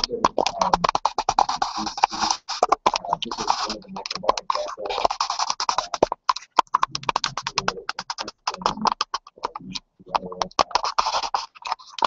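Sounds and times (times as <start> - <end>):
choppy man's voice on video call: 0.0 - 12.0.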